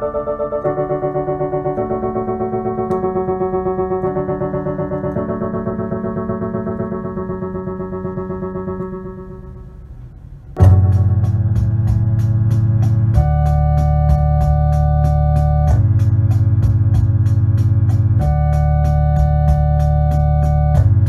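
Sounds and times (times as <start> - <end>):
electronic organ chords: 0.0 - 21.0
ticking rhythm machine beat: 0.0 - 21.0.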